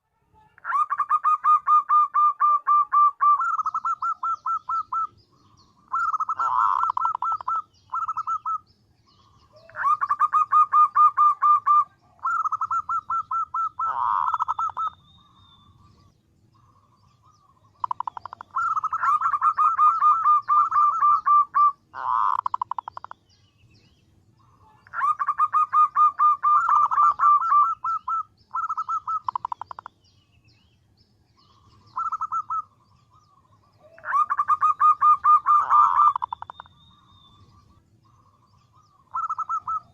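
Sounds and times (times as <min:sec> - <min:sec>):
dove staccato cooing: 0:00.6 - 0:23.2, 0:24.4 - 0:29.9, 0:31.5 - 0:36.7, 0:37.5 - 0:39.9.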